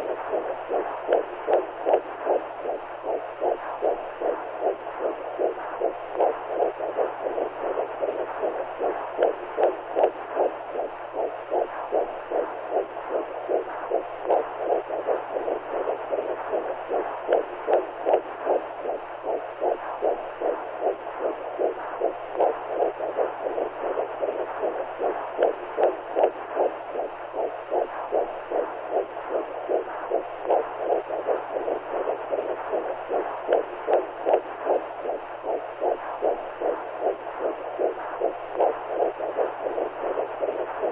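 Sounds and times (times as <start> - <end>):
faint low hum: 0.0 - 40.9
heartbeat whooshing pulse: 0.0 - 40.9.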